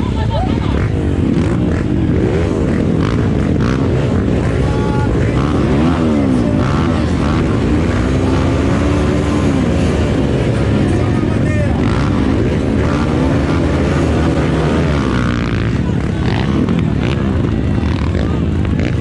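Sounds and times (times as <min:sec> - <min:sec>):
motorbike engines revving: 0:00.0 - 0:19.0.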